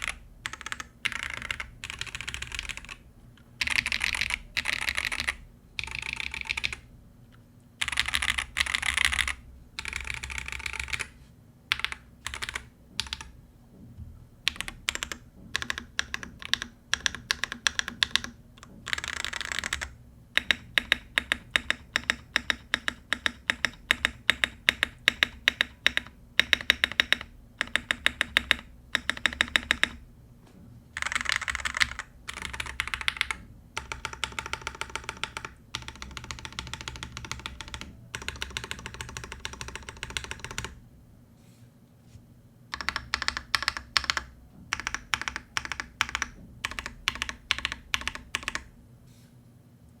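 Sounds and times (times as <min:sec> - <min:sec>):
mechanical keyboard typing: 0:00.0 - 0:03.0, 0:03.6 - 0:06.8, 0:07.8 - 0:13.4, 0:14.4 - 0:30.0, 0:31.0 - 0:40.8, 0:42.7 - 0:48.7.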